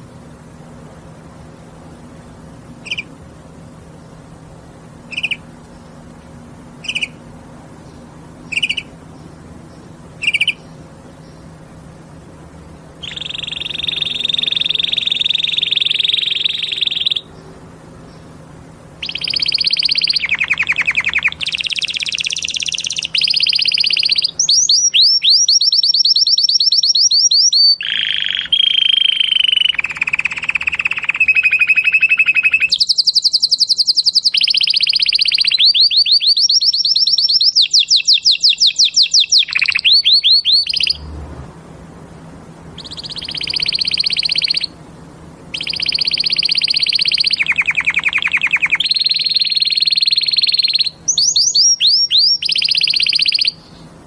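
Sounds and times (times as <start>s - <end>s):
canary singing: 0.0s - 41.2s, 42.2s - 54.0s.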